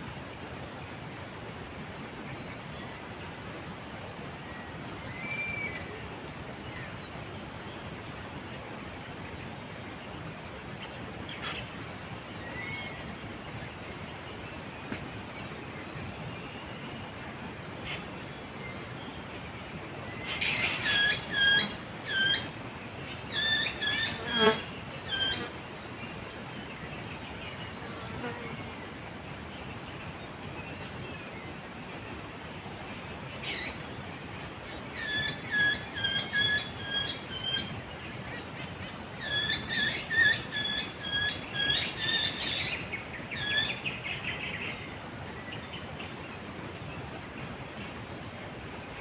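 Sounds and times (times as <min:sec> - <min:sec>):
insects buzzing with pulsing trill: 0:00.0 - 0:49.0.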